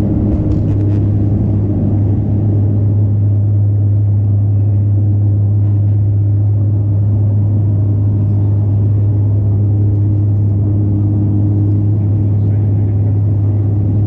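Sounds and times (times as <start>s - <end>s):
low engine rumble: 0.0s - 14.0s
propeller hum: 0.0s - 14.0s.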